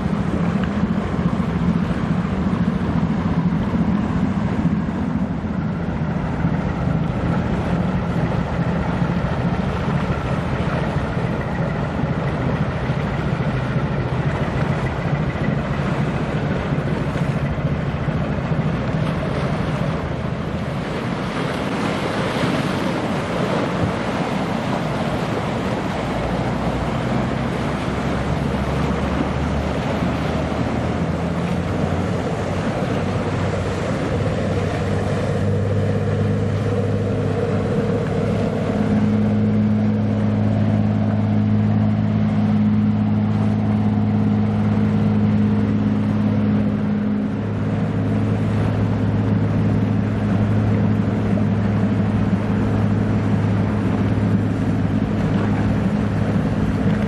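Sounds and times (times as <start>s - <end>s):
boat diesel engine drone: 0.0s - 57.0s
water washing: 0.0s - 57.0s
wind on microphone: 0.0s - 57.0s.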